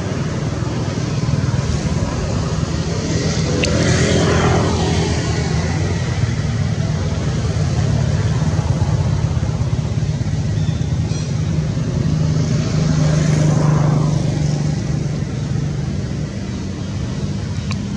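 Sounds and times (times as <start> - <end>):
motor vehicle passing: 0.0 - 17.9.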